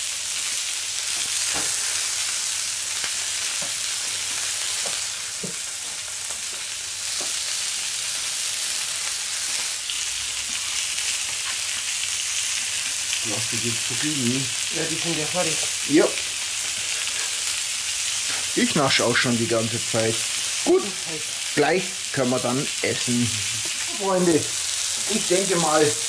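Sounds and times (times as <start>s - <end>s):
food sizzling on hot plate: 0.0s - 26.0s.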